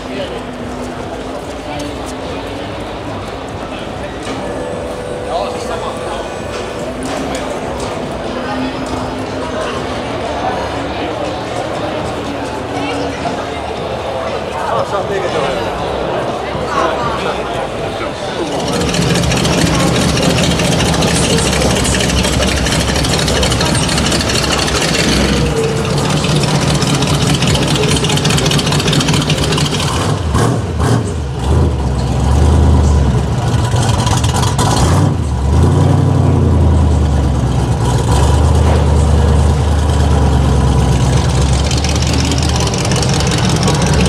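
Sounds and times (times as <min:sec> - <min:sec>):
car engines idling and moving off: 0:00.0 - 0:44.0.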